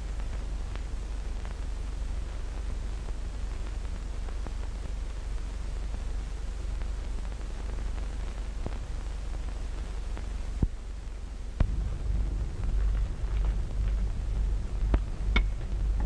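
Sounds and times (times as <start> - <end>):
film soundtrack hiss and hum: 0.0 - 16.0.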